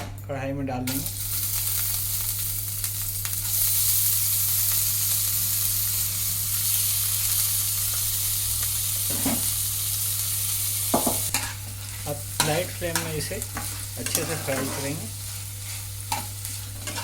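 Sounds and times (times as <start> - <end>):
rice sizzling in hot fat: 0.9 - 17.0.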